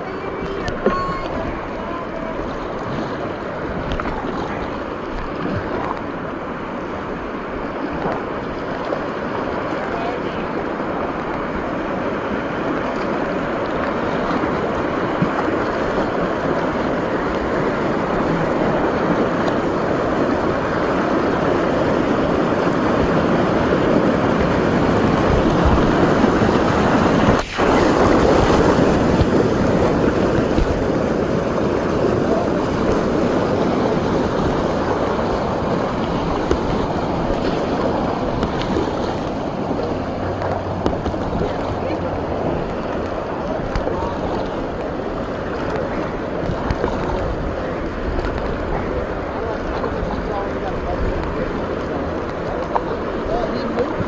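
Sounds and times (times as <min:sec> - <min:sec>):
whitewater rushing: 0:00.0 - 0:54.0
wind buffeting microphone: 0:00.0 - 0:54.0.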